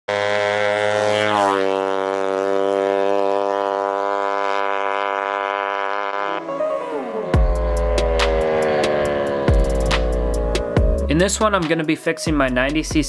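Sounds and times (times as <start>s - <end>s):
small two-stroke engine revving high: 0.1s - 11.4s.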